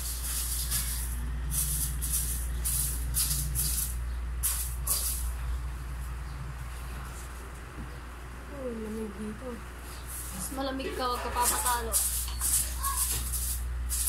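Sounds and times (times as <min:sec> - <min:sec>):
close rustles and scrapes: 0:00.0 - 0:07.7, 0:09.9 - 0:14.0
steady low hum: 0:00.0 - 0:14.0.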